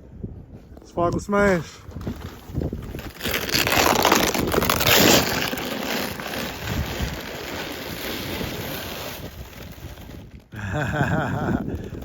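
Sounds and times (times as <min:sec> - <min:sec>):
sled sliding on packed snow: 0:01.5 - 0:12.0.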